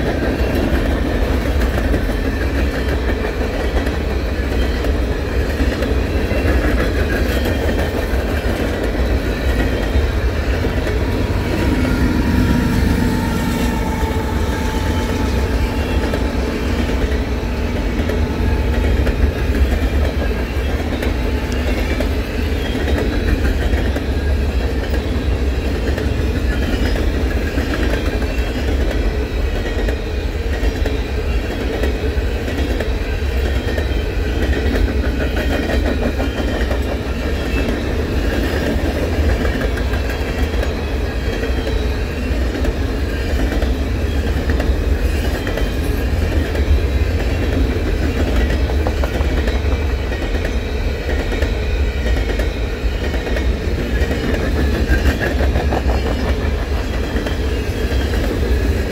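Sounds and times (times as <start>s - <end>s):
freight train rumbling past: 0.0s - 58.9s
steel wheels clattering on rails: 0.0s - 58.9s.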